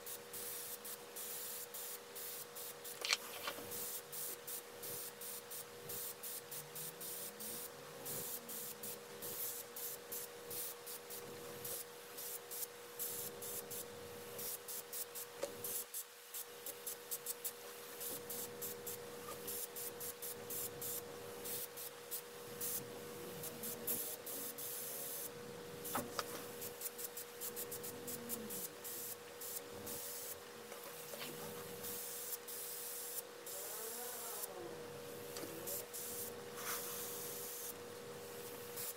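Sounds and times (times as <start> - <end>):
airbrush hissing bursts: 0.0 - 22.8, 23.4 - 30.4, 31.8 - 38.9
steady hum: 1.9 - 38.9.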